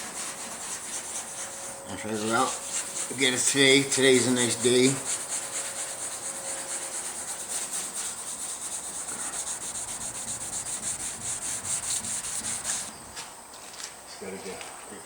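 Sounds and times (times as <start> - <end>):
wet sandpaper rubbing paint: 0.0 - 13.1.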